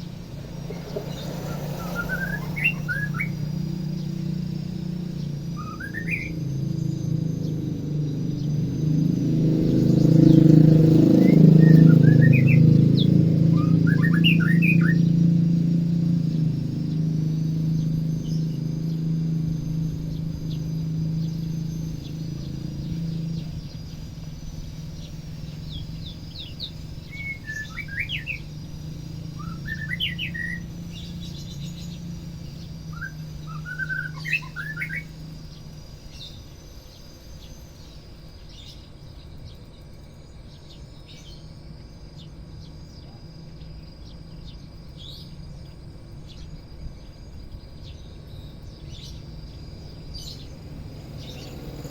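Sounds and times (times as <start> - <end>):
bird chirping: 0.0 - 51.9
low steady hum: 0.0 - 51.9.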